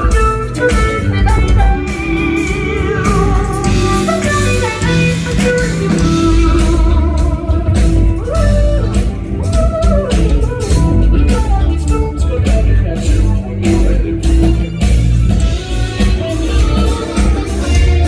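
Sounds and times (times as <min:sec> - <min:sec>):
electric guitar lead: 0:00.0 - 0:18.0
live rock band playing: 0:00.0 - 0:18.0.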